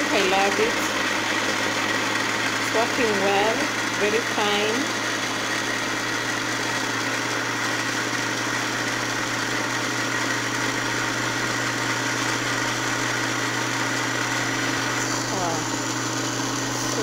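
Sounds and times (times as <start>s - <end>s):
electric blender motor running: 0.0s - 17.0s.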